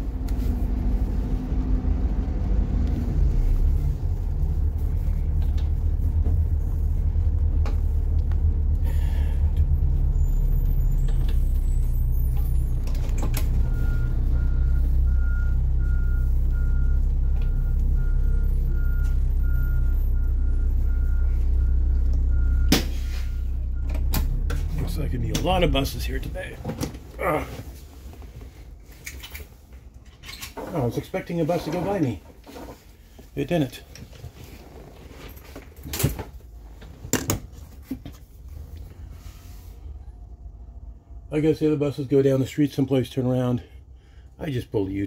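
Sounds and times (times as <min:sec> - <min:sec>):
diesel bus engine rumbling: 0:00.0 - 0:45.0.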